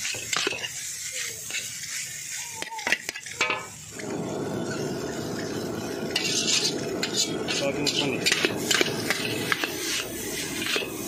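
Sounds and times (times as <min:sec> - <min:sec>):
metal spatula scraping wok: 0:00.0 - 0:11.0
noodles sizzling in wok: 0:00.0 - 0:11.0.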